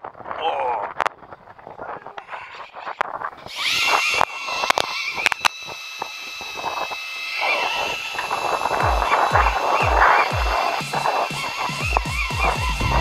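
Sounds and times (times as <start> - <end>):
fishing reel motor whining: 0.2 - 13.0
sharp clicks: 2.2 - 13.0.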